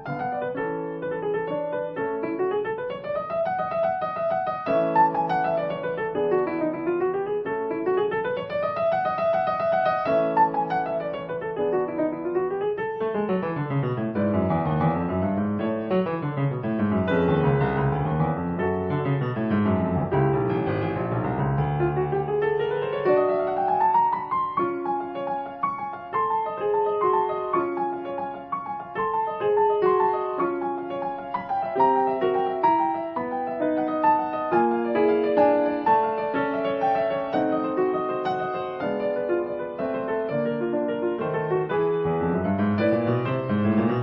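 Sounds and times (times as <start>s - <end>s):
solo piano music: 0.0s - 44.0s.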